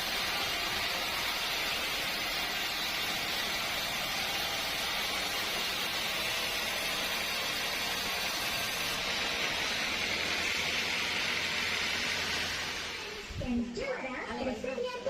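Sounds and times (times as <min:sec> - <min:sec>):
sawmill saw cutting wood: 0:00.0 - 0:13.4.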